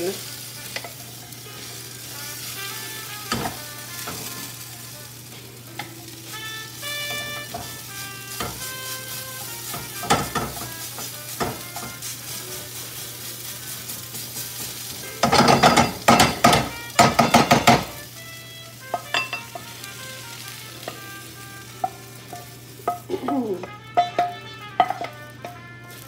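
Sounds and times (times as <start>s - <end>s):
food sizzling in a pan: 0.0s - 26.0s
soft background music: 0.0s - 26.0s.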